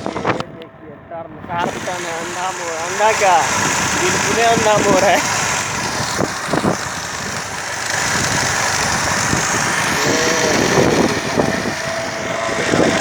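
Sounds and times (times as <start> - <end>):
steady pitched tone: 0.0 - 13.0
vehicle engine and road noise: 0.0 - 13.0
wind noise: 0.0 - 13.0.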